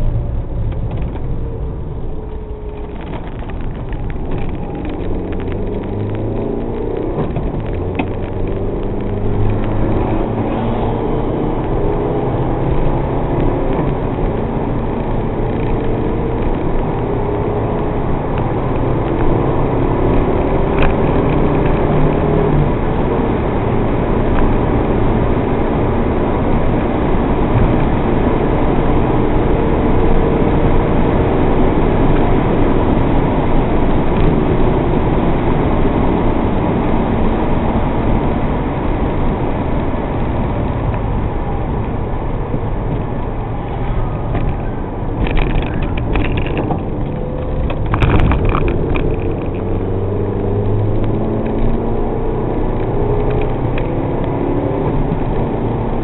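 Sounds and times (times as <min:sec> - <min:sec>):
car engine under load: 0:00.0 - 0:56.0
road and wind noise: 0:00.0 - 0:56.0.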